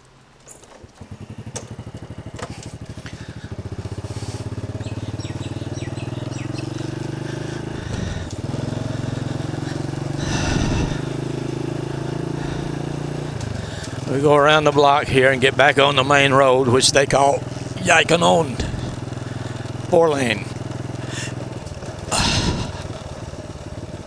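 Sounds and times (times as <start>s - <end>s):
motorcycle engine running: 0.2s - 24.0s.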